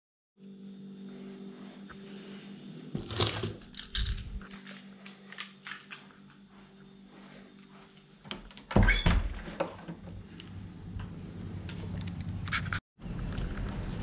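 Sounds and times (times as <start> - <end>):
steady low hum: 0.4 - 14.0.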